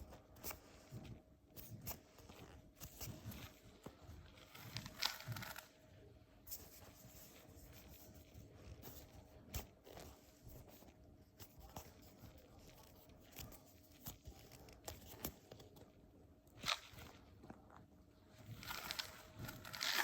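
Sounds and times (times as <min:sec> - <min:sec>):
squishy toys handled and squeezed: 0:00.0 - 0:20.0.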